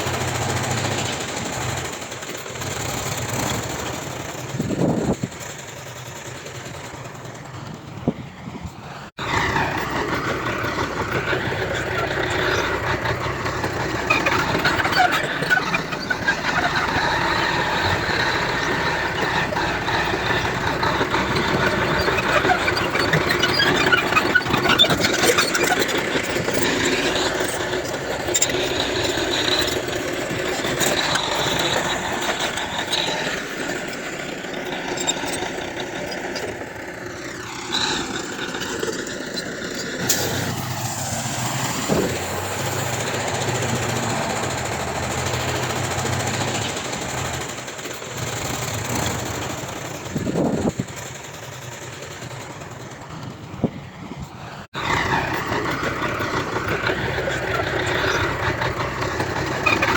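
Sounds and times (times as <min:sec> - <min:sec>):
diesel engines working: 0:00.0 - 0:59.9
metallic squeaks and clanks: 0:00.0 - 0:59.9.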